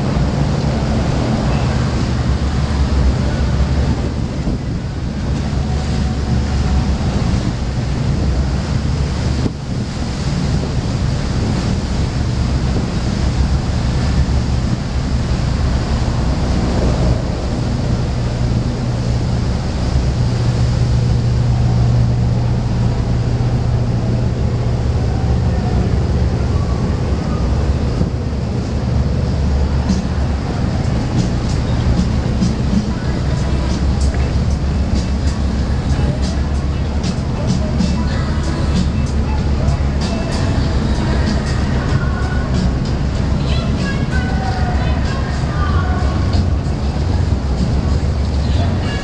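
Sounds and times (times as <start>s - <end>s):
boat engines humming: 0.0s - 49.0s
water washing past hull: 0.0s - 49.0s
wind on microphone: 0.0s - 49.0s.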